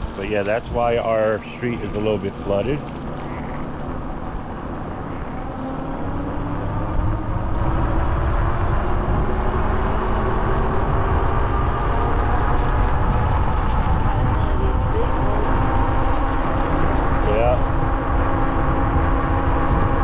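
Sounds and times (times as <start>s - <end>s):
car engine: 0.0s - 20.0s.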